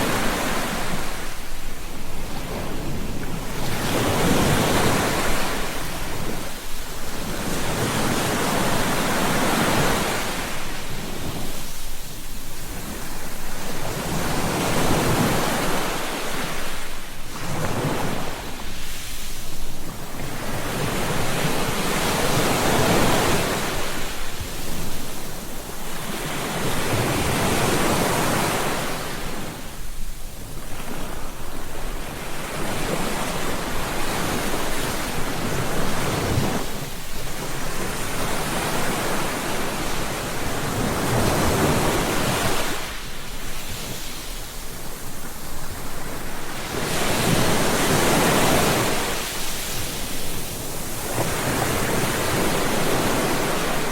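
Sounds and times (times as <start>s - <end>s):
ocean waves breaking on beach: 0.0s - 53.9s.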